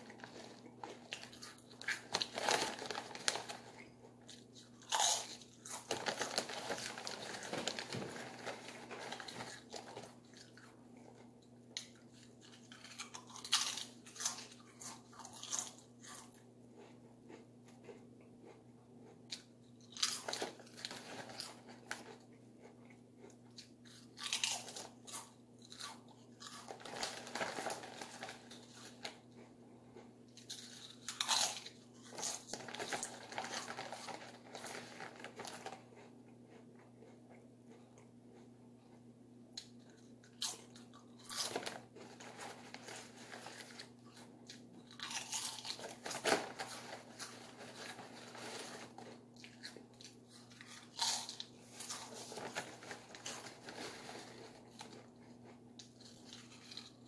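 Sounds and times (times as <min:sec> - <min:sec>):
crunching and chewing crisp food: 0:00.0 - 0:57.0
faint low hum: 0:00.0 - 0:57.0.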